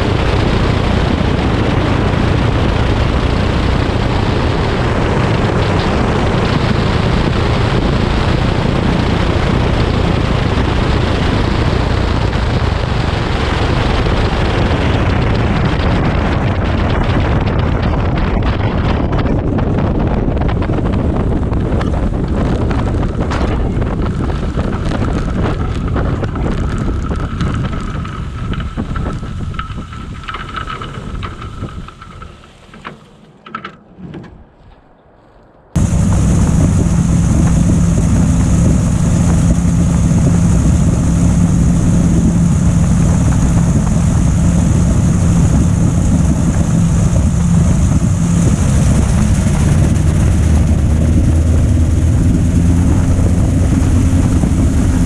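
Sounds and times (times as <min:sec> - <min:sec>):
aircraft engine and propeller: 0:00.0 - 0:55.0
wind noise on microphone: 0:00.0 - 0:55.0.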